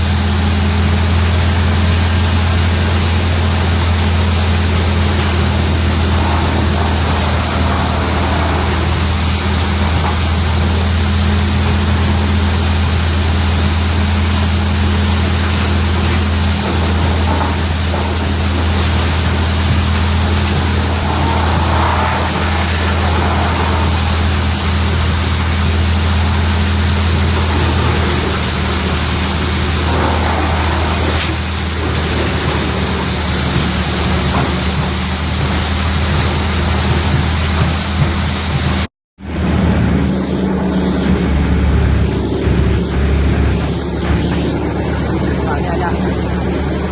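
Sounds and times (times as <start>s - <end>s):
low engine drone: 0.0s - 46.9s
wood chipper rushing noise: 0.0s - 46.9s.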